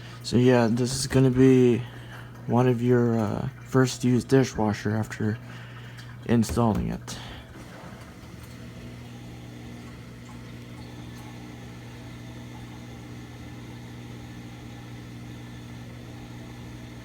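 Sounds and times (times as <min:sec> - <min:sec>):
appliance motor humming: 0:00.0 - 0:17.0.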